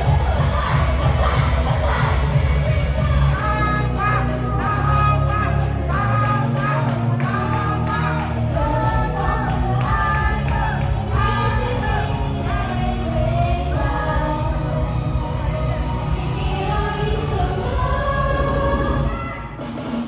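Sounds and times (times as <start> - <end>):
pop song with singing: 0.0 - 20.0.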